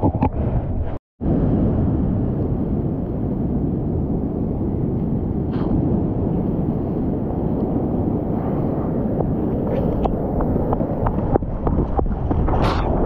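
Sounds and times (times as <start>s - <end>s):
surf roaring and churning water: 1.3s - 13.0s.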